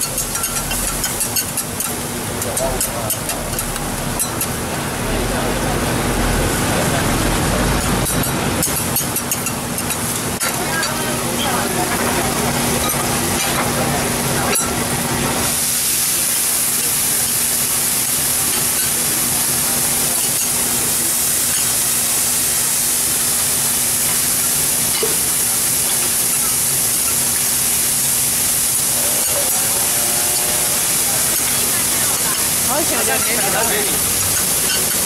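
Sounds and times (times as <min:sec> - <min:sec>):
sprouts sizzling on hot griddle: 0:00.0 - 0:04.9, 0:07.8 - 0:35.0.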